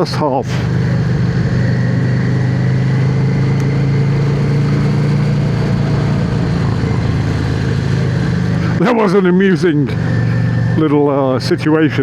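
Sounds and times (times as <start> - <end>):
rush of noise: 0.0 - 10.8
motorcycle engine cruising: 0.0 - 11.7.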